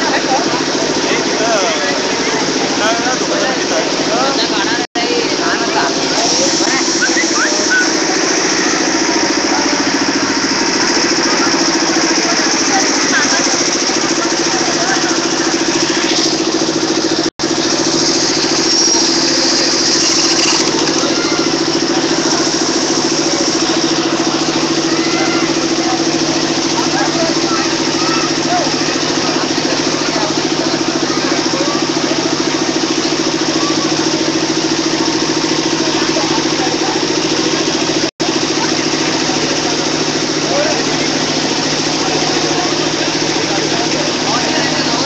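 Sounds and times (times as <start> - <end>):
engine idling: 0.0 - 45.0.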